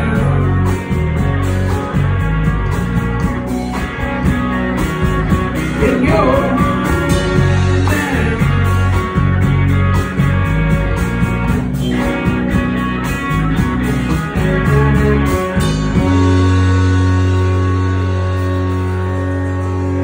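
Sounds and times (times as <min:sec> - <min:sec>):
bass guitar: 0:00.0 - 0:20.0
drums: 0:00.0 - 0:20.0
electric guitars: 0:00.0 - 0:20.0.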